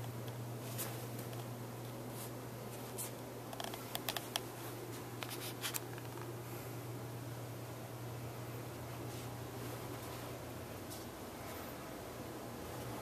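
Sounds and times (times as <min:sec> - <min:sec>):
low room tone hum: 0:00.0 - 0:13.0.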